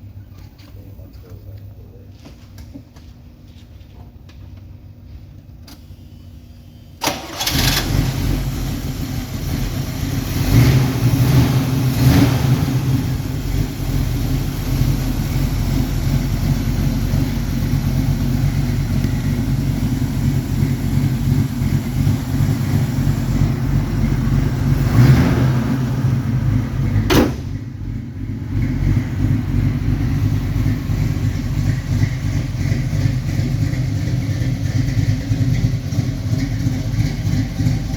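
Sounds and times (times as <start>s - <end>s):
car engine starting and idling: 4.3s - 37.9s.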